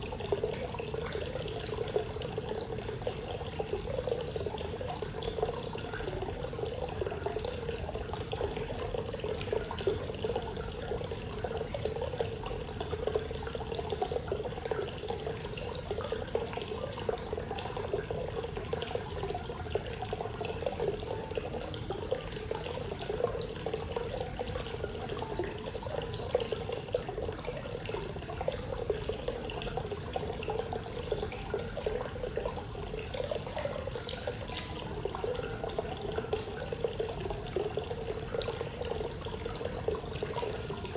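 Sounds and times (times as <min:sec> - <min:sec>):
water pouring into a bath: 0:00.0 - 0:40.9.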